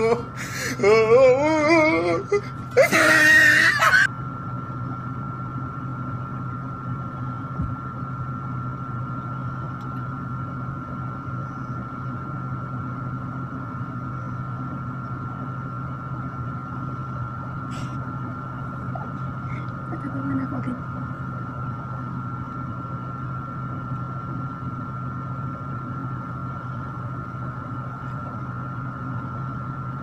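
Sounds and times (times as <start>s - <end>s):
electric fan humming: 0.0s - 30.0s
thin steady whine: 0.0s - 30.0s.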